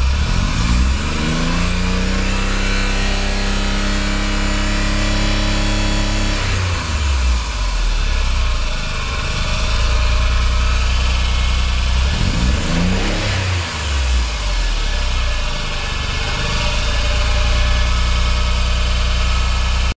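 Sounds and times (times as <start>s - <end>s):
car engine idling: 0.0s - 20.0s
engine revving: 0.0s - 20.0s.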